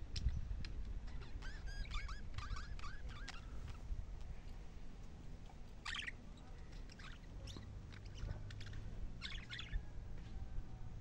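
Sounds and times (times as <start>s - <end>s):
low steady rumble: 0.0s - 11.0s
small birds chirping: 0.1s - 11.0s.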